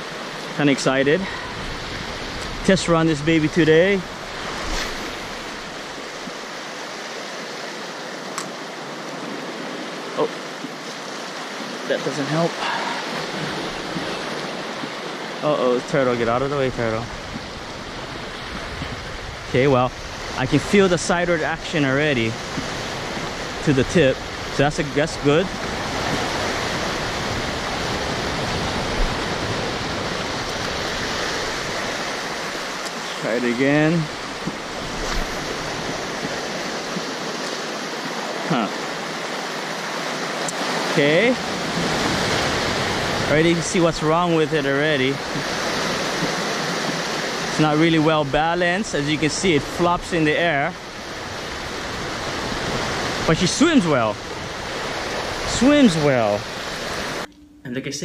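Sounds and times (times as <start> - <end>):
surf washing over rocks: 0.0 - 57.3.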